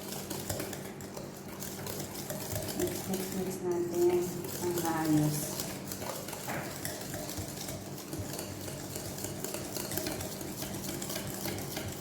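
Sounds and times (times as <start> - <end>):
utensil stirring batter in bowl: 0.0 - 12.0.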